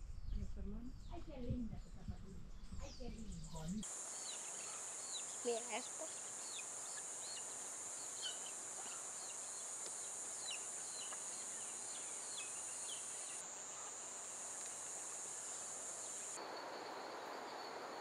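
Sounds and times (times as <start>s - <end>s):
high-pitched insect chorus: 2.8s - 18.0s.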